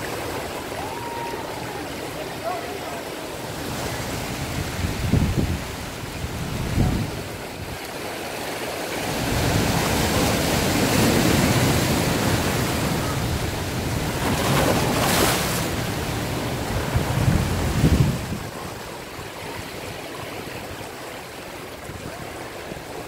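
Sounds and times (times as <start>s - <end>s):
waves thudding on rocks: 0.0s - 20.0s
churning whitewater rush: 0.0s - 23.0s.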